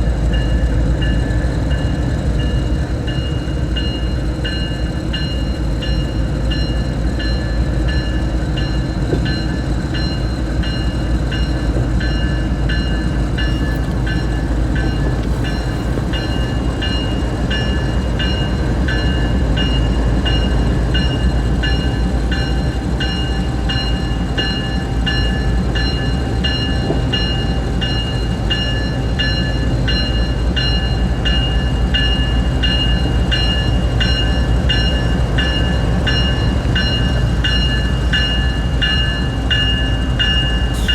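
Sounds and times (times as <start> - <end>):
diesel locomotive rumble: 0.0 - 40.9
locomotive bell ringing: 0.1 - 40.9.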